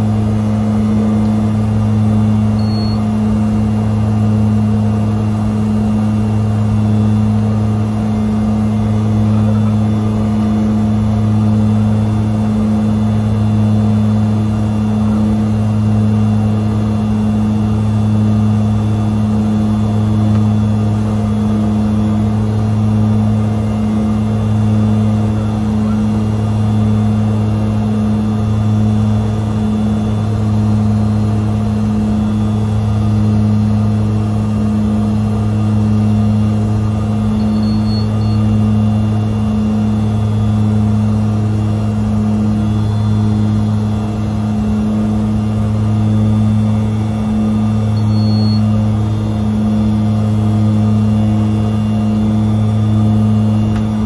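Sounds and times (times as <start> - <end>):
turboprop propeller drone: 0.0 - 54.0.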